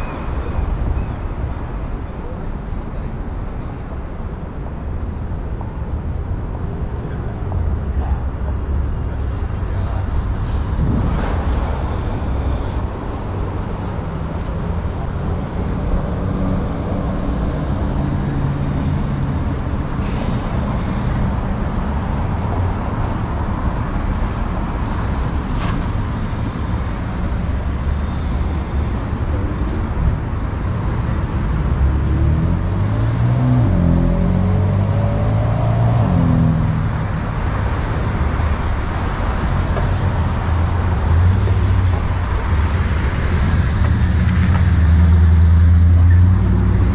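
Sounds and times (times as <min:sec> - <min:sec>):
street traffic hum: 0:00.0 - 0:46.9.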